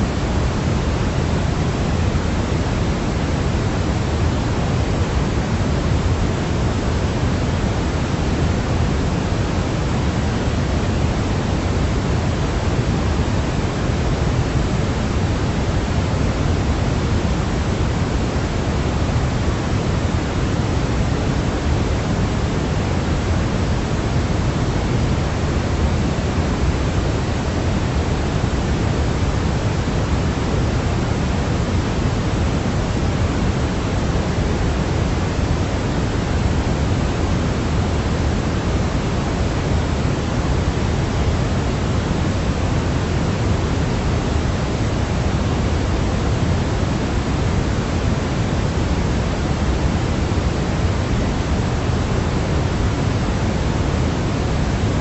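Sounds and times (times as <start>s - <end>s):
steady synthetic hiss: 0.0s - 55.0s.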